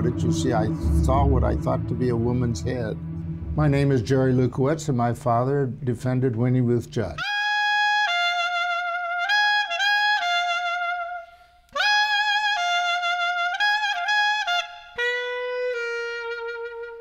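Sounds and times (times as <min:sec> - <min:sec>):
solo wind instrument melody: 0:00.0 - 0:04.6, 0:07.2 - 0:17.0.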